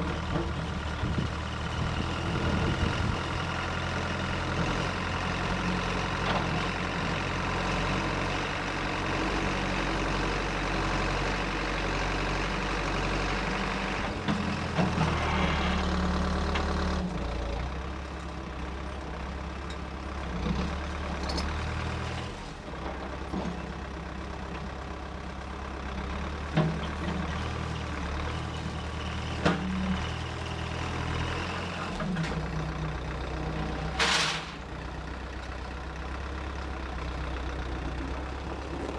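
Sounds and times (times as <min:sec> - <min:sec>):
engine humming: 0:00.0 - 0:38.9.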